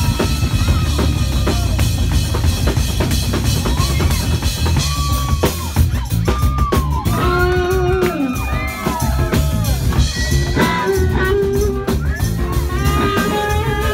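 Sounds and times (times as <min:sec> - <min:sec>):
drum kit: 0:00.0 - 0:13.9
electric bass guitar: 0:00.0 - 0:13.9.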